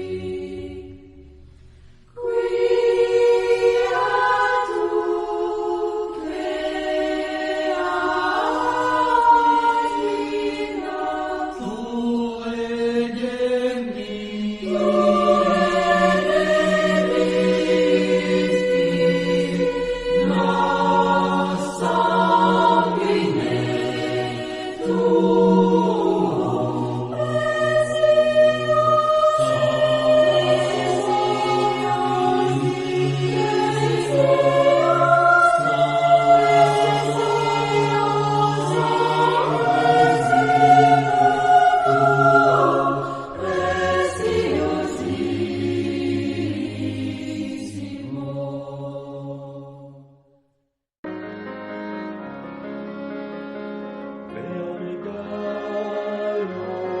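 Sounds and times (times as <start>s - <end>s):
choir singing sustained chords: 0.0s - 50.3s, 51.2s - 57.0s.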